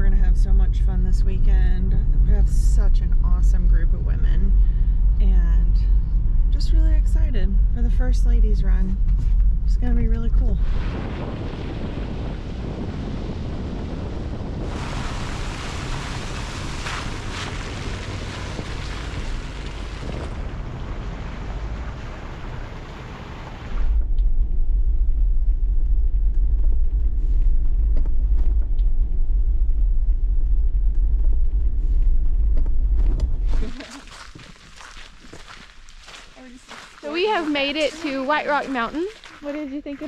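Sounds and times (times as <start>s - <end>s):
road and tyre noise: 0.0s - 40.0s
wind rumble on microphone: 0.0s - 40.0s.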